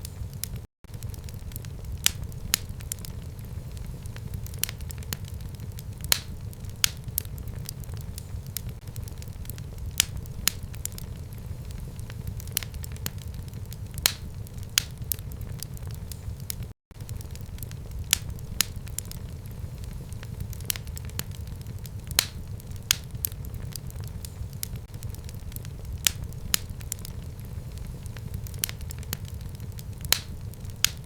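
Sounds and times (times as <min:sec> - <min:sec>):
burning logs popping and crackling: 0:00.0 - 0:31.0
low rumble of flames: 0:00.0 - 0:31.0.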